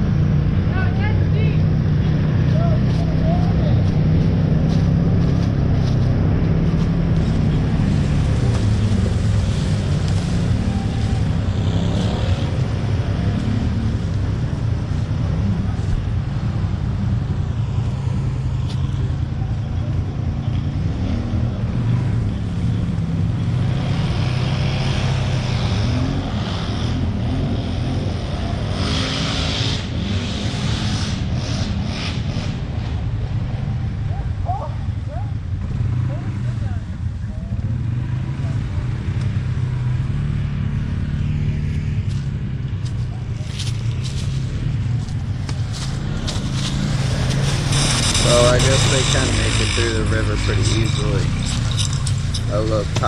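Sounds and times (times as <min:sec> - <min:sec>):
quad bike engine revving: 0:01.0 - 0:15.6, 0:20.2 - 0:32.9, 0:37.7 - 0:53.0.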